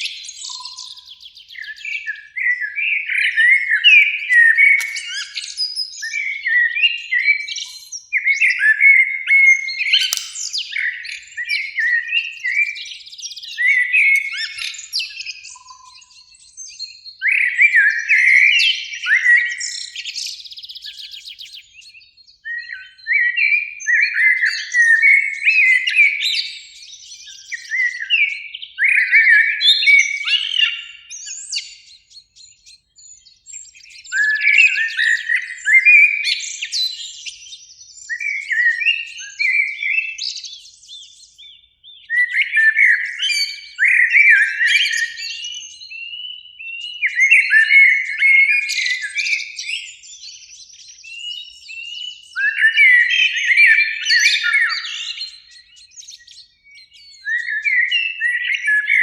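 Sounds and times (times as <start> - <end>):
blackbird singing: 0.0 - 59.0.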